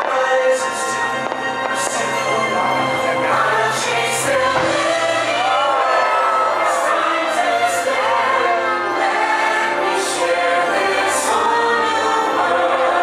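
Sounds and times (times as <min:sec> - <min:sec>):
choir singing long notes: 0:00.0 - 0:13.0
soundtrack music: 0:00.0 - 0:13.0.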